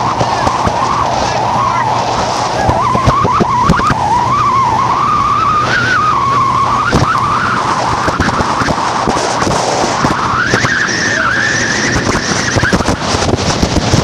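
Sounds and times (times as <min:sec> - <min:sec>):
motorboat engine running: 0:00.0 - 0:14.0
water rushing: 0:00.0 - 0:14.0.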